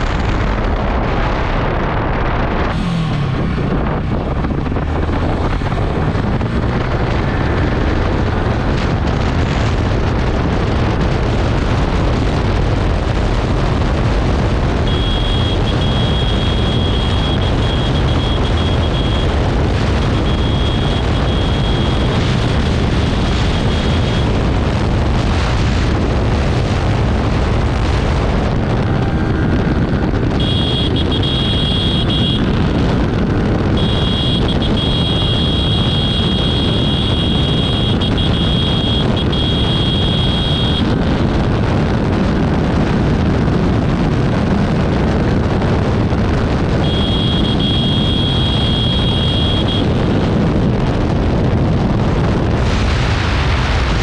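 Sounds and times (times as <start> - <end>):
motorcycle engine accelerating: 0.0 - 52.5
wind rush on microphone: 0.0 - 54.0.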